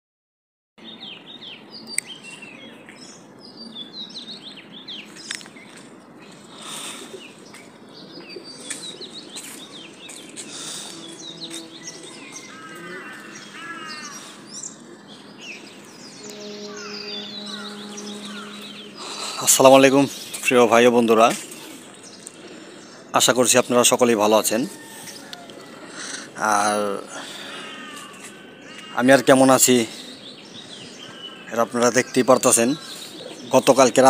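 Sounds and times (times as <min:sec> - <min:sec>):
birds chirping and calling: 0:00.8 - 0:34.0.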